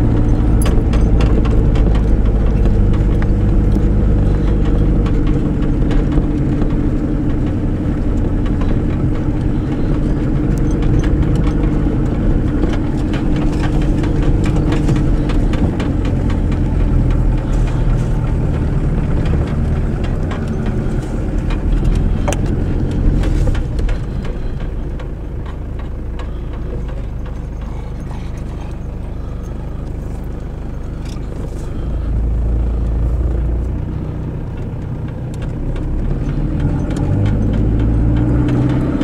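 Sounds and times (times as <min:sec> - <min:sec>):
clicks and rattles: 0:00.0 - 0:39.0
vehicle engine running: 0:00.0 - 0:39.0.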